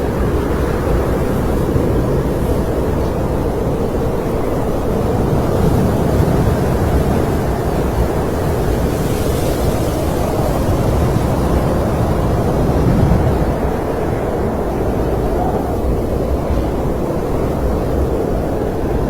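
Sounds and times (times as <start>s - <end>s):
snowstorm wind rushing: 0.0s - 19.0s.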